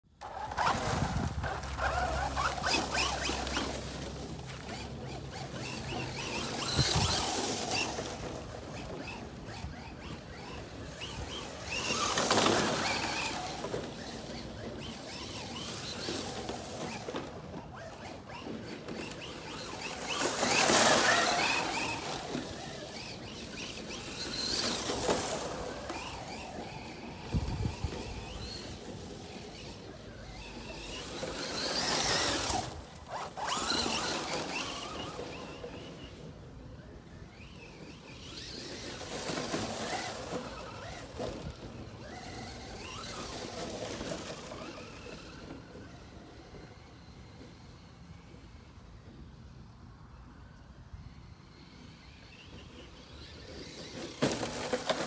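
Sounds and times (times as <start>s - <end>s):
tyres rushing through dry leaves: 0.2s - 47.7s, 52.0s - 55.0s.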